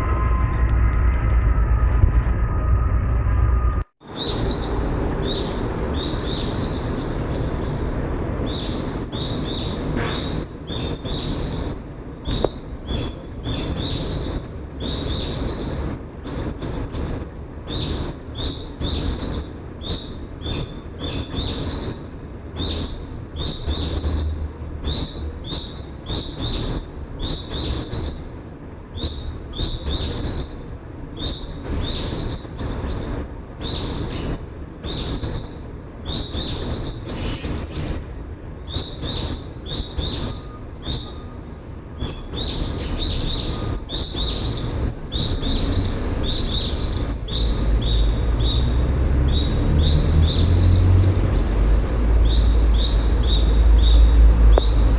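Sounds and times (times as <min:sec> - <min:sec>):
low rushing background: 0:00.0 - 0:54.9
small birds chirping: 0:04.0 - 0:54.9.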